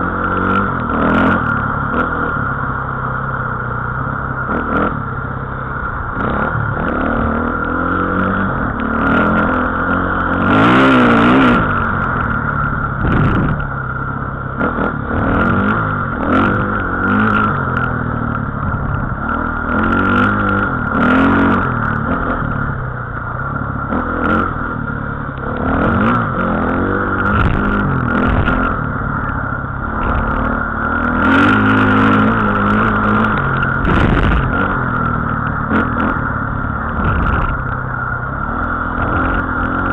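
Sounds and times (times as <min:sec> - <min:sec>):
small engine revving: 0:00.0 - 0:02.9, 0:06.0 - 0:13.8, 0:14.5 - 0:22.8, 0:23.8 - 0:39.9.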